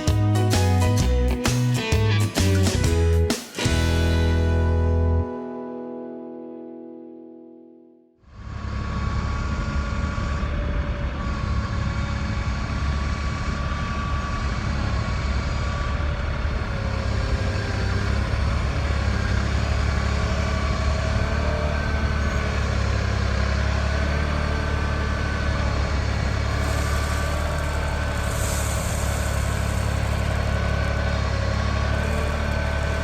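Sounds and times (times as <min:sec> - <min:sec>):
tractor diesel engine running: 0:00.0 - 0:05.2, 0:08.4 - 0:33.0.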